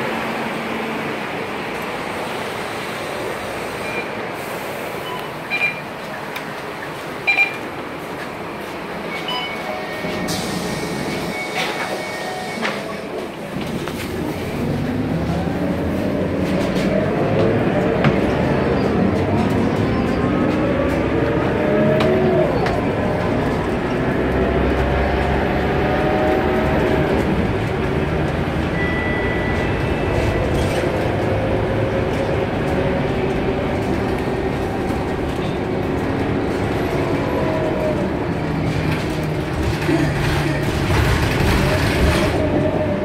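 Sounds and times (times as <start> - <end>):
bus engine drone: 0.0 - 43.0
road rumble: 0.0 - 43.0.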